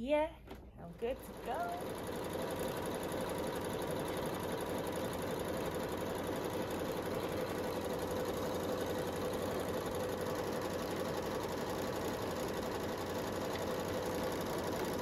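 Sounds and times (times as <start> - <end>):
sewing machine stitching: 0.9 - 15.0.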